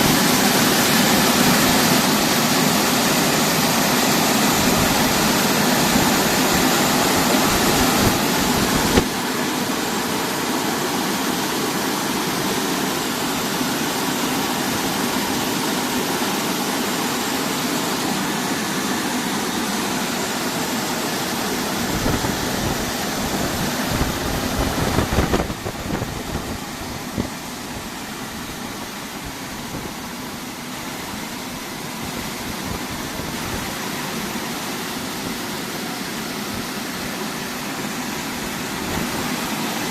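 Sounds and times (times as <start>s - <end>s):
car wash motor noise: 0.0s - 39.9s
water spray rushing: 0.0s - 39.9s.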